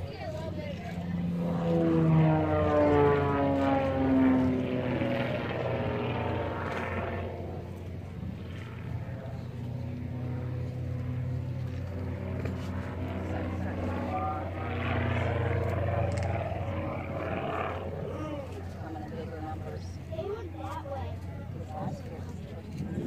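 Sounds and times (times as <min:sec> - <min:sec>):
propeller plane engine droning: 0:00.0 - 0:23.0.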